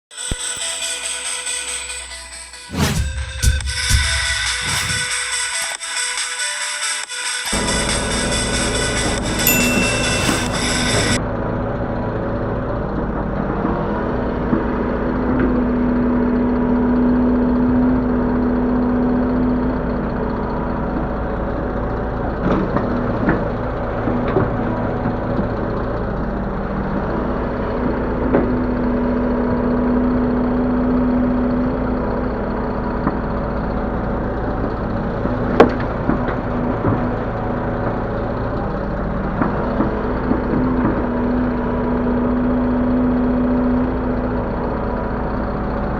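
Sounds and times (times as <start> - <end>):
excavator running: 7.5 - 45.9.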